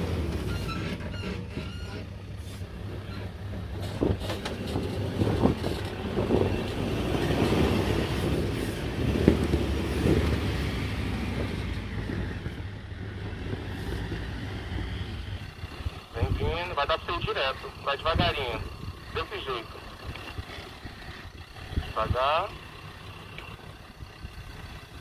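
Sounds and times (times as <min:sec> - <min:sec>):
suv engine labouring: 0:00.0 - 0:25.0.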